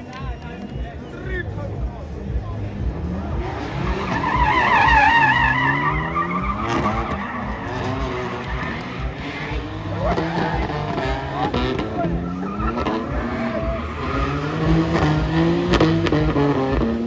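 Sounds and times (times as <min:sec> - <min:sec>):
high-revving car engine: 0:01.5 - 0:17.0
car tyres squealing: 0:02.3 - 0:17.0.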